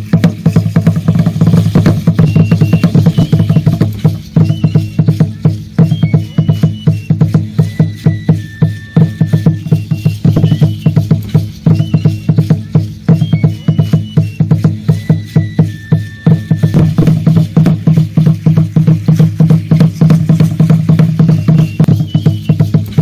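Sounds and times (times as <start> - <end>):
fast drumbeats: 0.0 - 23.0
thin high tones: 0.0 - 23.0.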